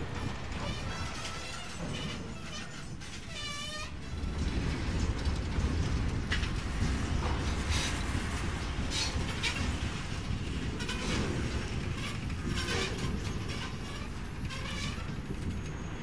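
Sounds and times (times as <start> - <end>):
model train wheels rumbling on rails: 0.0 - 16.0.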